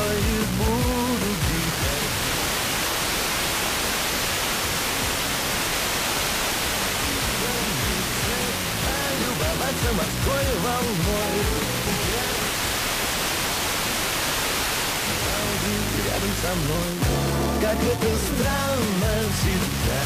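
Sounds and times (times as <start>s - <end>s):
fm radio hiss: 0.0s - 20.0s
radio broadcast audio: 0.0s - 20.0s.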